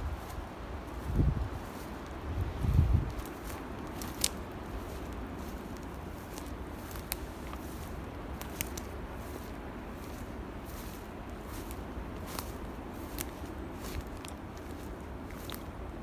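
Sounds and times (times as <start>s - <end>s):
footsteps rustling on forest floor: 0.0s - 16.0s
twigs cracking underfoot: 0.2s - 15.9s.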